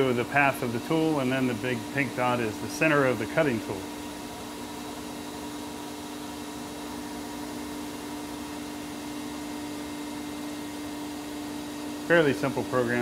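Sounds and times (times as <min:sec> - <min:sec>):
lathe machine hum with whine: 0:00.0 - 0:13.0.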